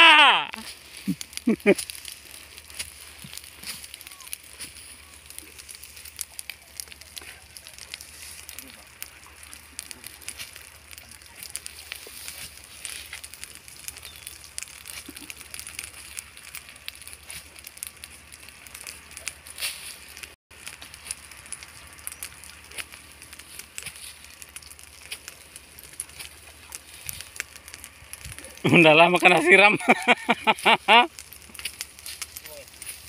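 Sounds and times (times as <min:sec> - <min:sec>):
dry grass and brush burning: 0:00.0 - 0:33.0
fire crackling and popping: 0:00.0 - 0:33.0.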